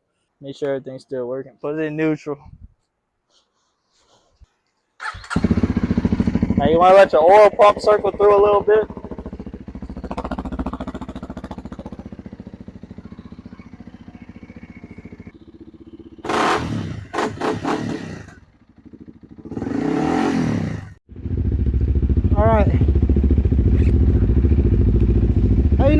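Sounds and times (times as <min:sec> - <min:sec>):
motorcycle engine idling: 0:05.0 - 0:25.9.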